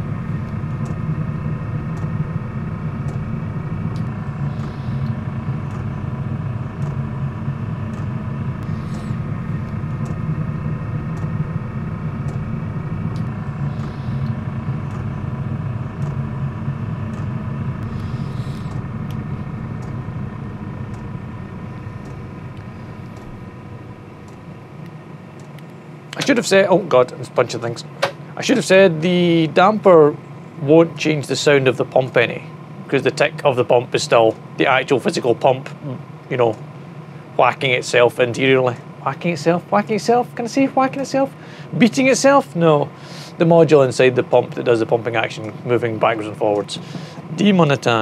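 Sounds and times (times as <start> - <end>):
air heater fan humming: 0.0 - 48.0.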